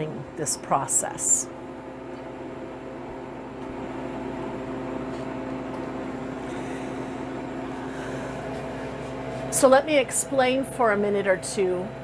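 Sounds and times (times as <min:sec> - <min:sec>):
freeze dryer humming: 0:00.0 - 0:12.0.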